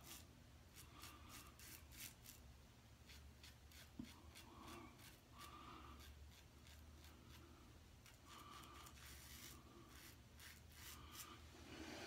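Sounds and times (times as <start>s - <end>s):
razor scraping stubble: 0.0s - 2.4s, 3.0s - 11.4s.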